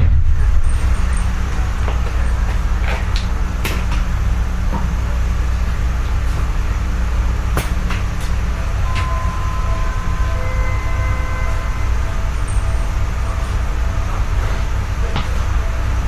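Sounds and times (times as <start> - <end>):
low hum of train equipment: 0.0 - 16.0.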